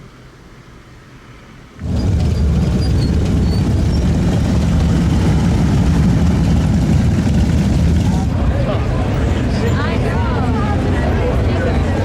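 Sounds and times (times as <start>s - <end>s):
motorcycle engines rumbling: 1.8s - 12.0s.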